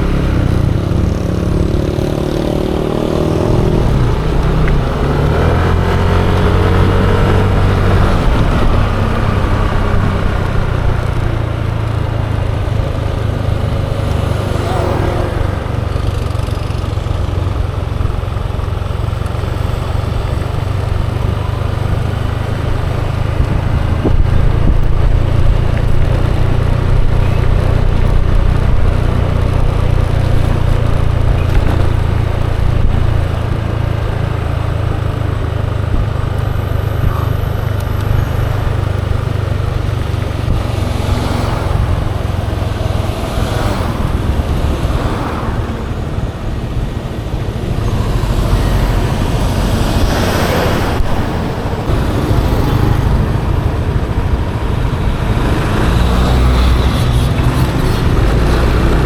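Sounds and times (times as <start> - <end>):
wind rumble on microphone: 0.0 - 16.4, 19.4 - 59.0
scooter engine running: 0.0 - 59.0
traffic passing: 0.0 - 59.0.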